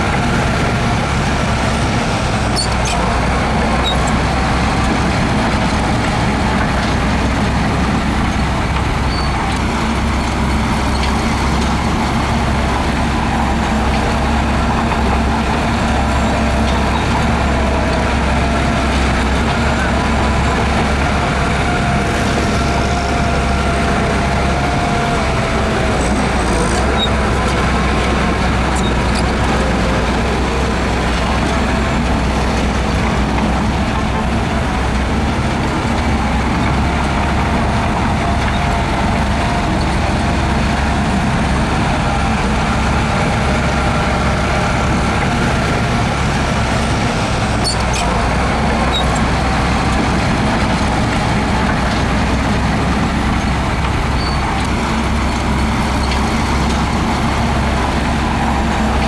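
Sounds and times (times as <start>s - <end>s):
heavy machinery diesel engine drone: 0.0s - 59.0s.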